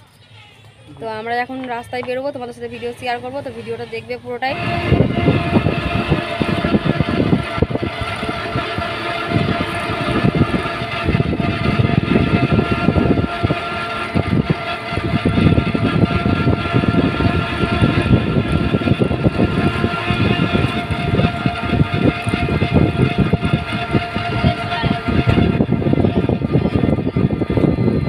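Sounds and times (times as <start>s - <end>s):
faint motor whine: 0.0s - 28.0s
wind and road noise: 1.0s - 28.0s.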